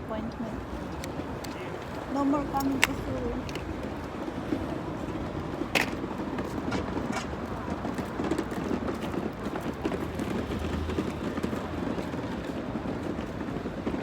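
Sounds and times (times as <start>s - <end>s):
vehicle and road noise: 0.0s - 14.0s.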